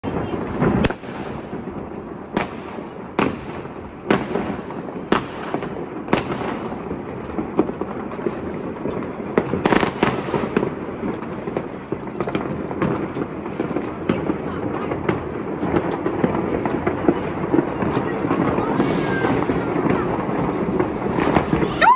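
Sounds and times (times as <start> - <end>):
crackle of distant fireworks: 0.0 - 21.9
loud firework bangs: 0.0 - 21.9.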